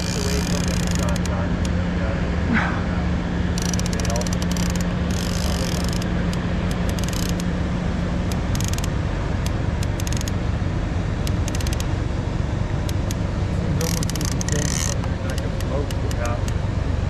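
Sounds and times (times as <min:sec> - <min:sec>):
boat engine rumbling: 0:00.0 - 0:17.0
low hum: 0:00.0 - 0:17.0.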